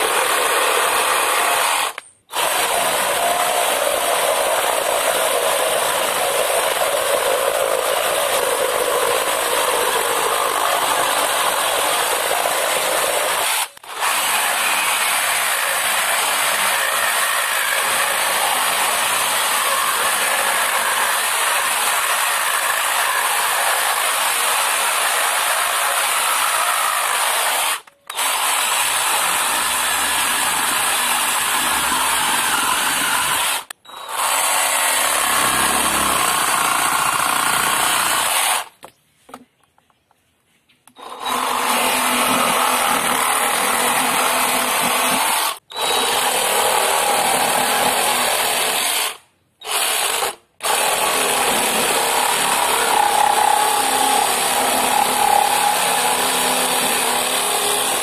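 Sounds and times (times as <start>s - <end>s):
reciprocating saw cutting wood: 0.0s - 38.8s, 40.9s - 58.0s.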